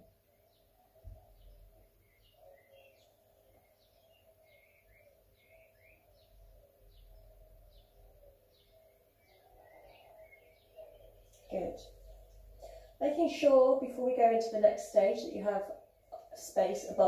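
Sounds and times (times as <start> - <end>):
faint birdsong chirps: 0.0 - 17.0.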